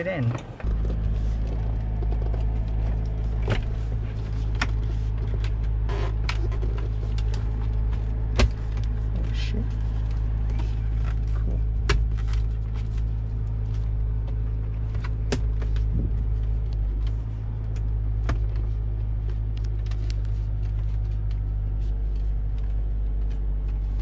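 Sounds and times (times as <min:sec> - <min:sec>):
car engine drone: 0:00.0 - 0:24.0.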